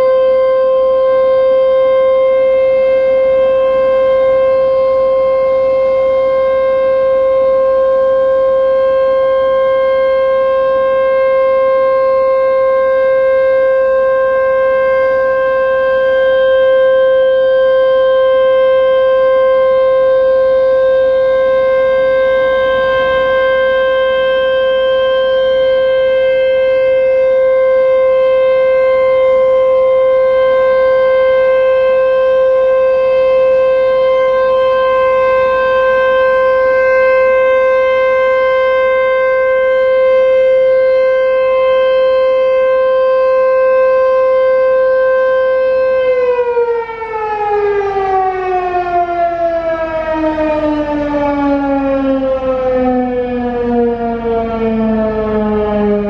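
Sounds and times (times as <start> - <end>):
warning siren: 0.0 - 56.0.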